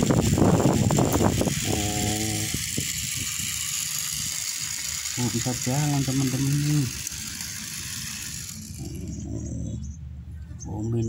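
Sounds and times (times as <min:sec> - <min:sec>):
small electric motor rattling: 0:00.0 - 0:09.3.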